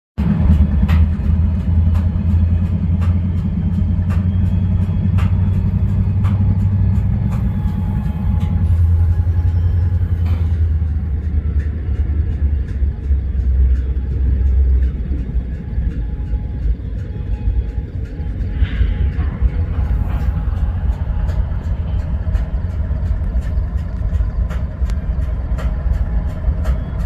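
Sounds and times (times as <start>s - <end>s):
diesel locomotives idling: 0.2s - 27.0s
regular engine knocking: 0.2s - 27.0s.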